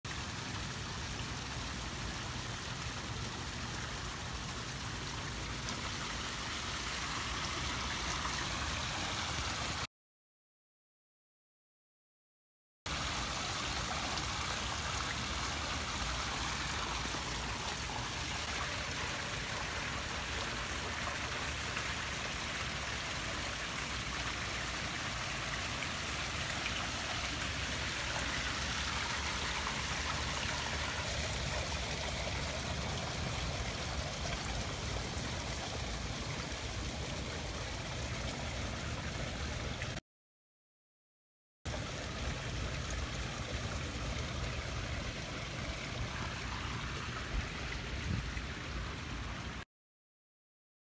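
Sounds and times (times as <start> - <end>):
fountain water splashing: 0.1 - 9.9, 12.9 - 40.0, 41.7 - 49.6.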